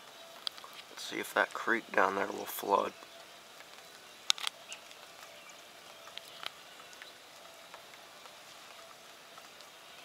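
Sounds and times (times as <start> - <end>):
light rain hiss: 0.0 - 10.0
raindrops ticking: 0.0 - 10.0.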